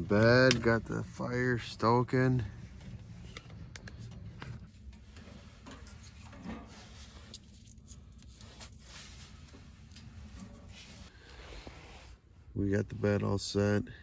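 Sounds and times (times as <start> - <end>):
wood fire crackling: 0.0 - 11.4.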